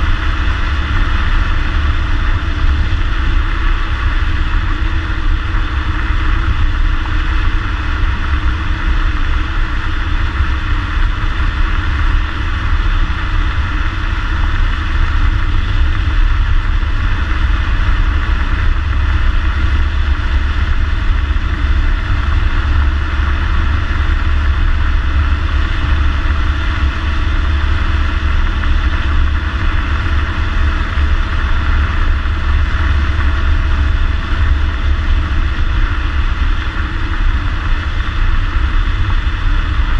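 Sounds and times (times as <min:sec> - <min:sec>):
car engine rumbling while driving: 0:00.0 - 0:39.9.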